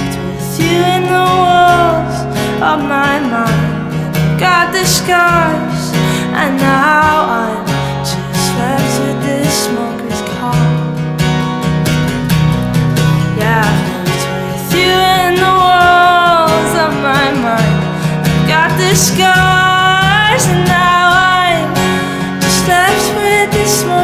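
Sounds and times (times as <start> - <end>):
woman singing: 0.0 - 10.9, 13.0 - 24.0
strummed acoustic guitar: 0.0 - 24.0.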